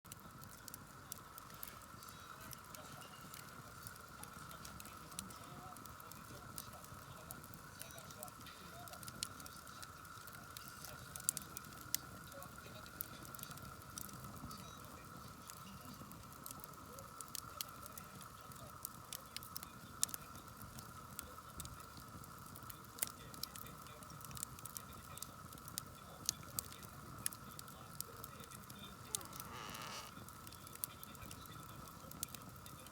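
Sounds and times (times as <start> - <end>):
campfire crackling and popping: 0.1 - 32.9.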